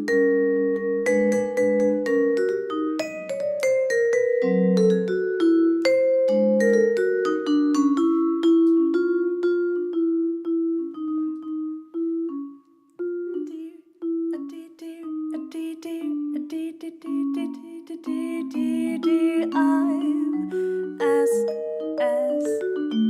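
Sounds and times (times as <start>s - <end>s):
solo vibraphone jazz: 0.0s - 23.0s.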